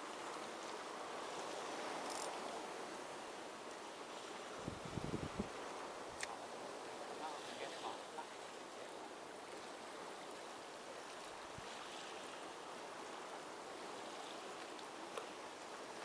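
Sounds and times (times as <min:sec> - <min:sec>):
small waves washing: 0:00.0 - 0:16.0.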